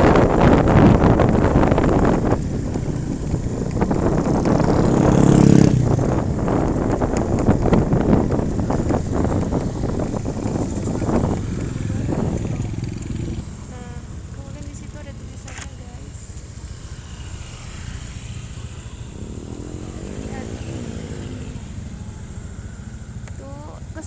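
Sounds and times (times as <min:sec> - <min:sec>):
traffic: 0:00.0 - 0:24.0
vehicle engine passing close: 0:00.0 - 0:24.0
wind buffeting microphone: 0:00.0 - 0:24.0.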